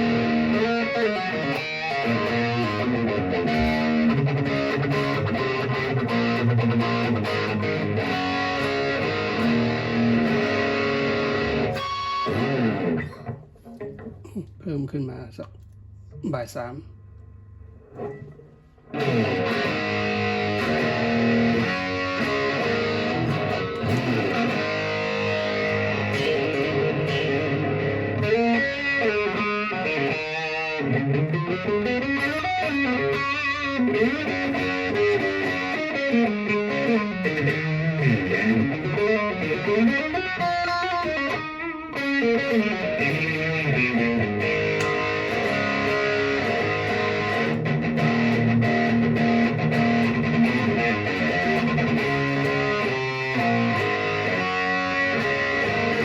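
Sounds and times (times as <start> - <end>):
distorted electric guitar: 0.0 - 15.4, 17.5 - 56.0.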